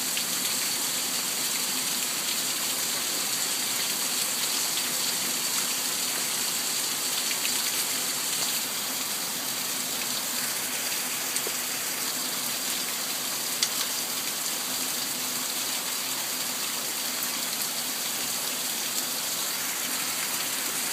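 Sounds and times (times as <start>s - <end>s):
steady rain hiss: 0.0s - 20.9s.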